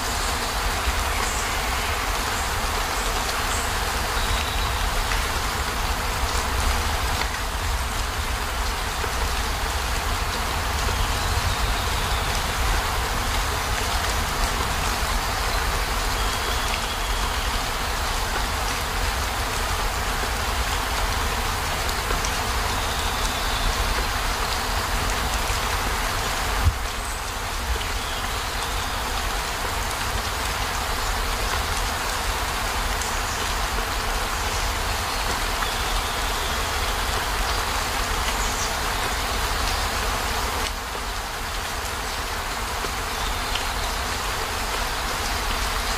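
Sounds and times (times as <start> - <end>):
rain on a van roof: 0.0 - 45.9.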